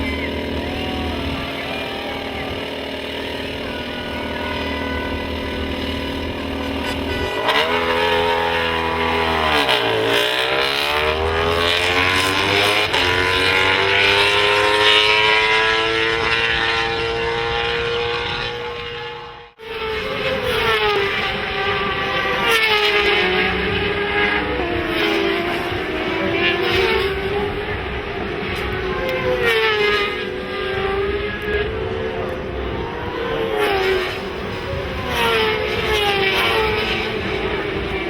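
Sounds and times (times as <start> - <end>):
racing motorcycle slowing and accelerating: 0.0 - 38.0
steady engine hum: 0.0 - 38.0.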